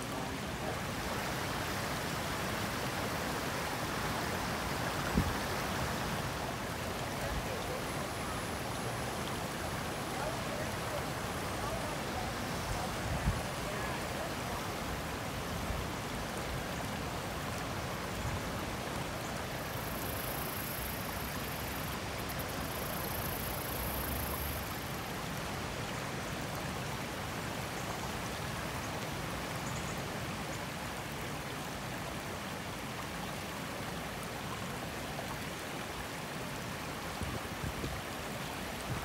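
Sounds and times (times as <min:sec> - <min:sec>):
creek rushing over rocks: 0:00.0 - 0:39.0
faint high-pitched hiss: 0:00.0 - 0:39.0.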